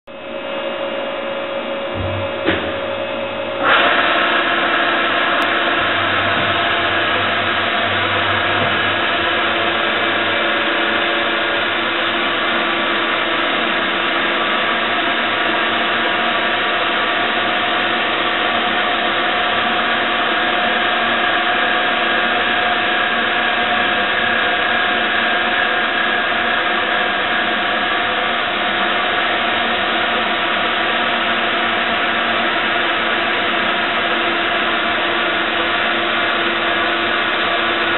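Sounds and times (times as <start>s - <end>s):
milling machine whirring: 0.2s - 37.9s.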